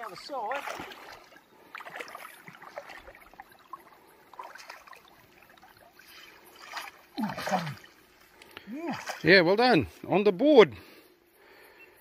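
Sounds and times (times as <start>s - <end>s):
stream water splashing: 0.0s - 10.2s.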